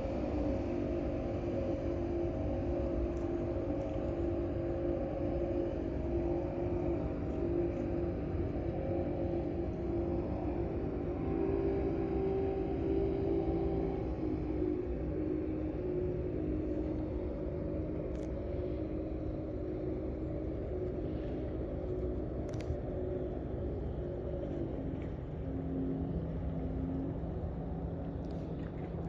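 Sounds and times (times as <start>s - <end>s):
boat engines droning: 0.0s - 29.0s.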